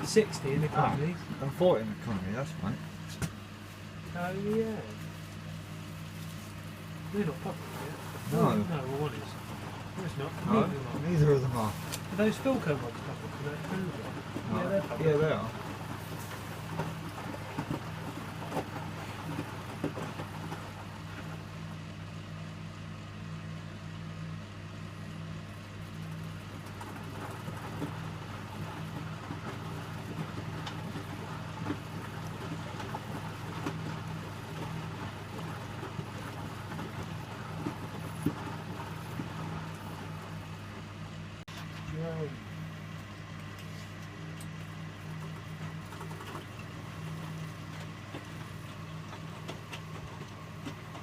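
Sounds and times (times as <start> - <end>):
washing machine humming: 0.0 - 51.0.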